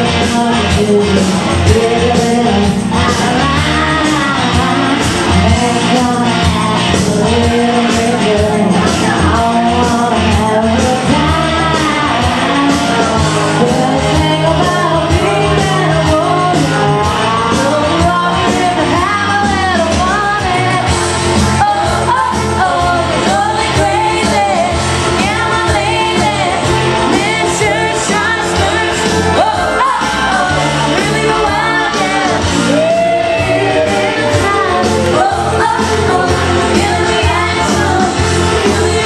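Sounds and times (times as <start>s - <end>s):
backing track with steady beat: 0.0s - 39.0s
woman singing karaoke: 0.0s - 39.0s.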